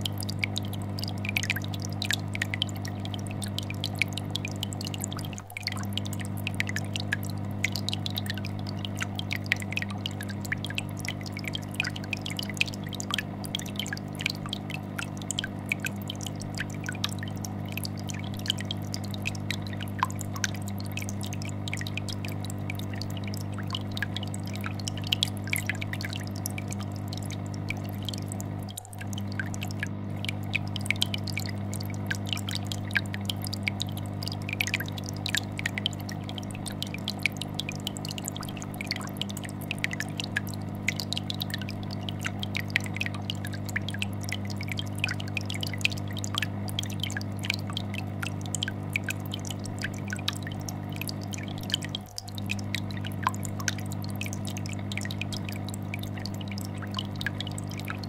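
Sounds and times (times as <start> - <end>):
air bubbler popping bubbles: 0.0 - 58.0
fish tank filter humming: 0.0 - 58.0.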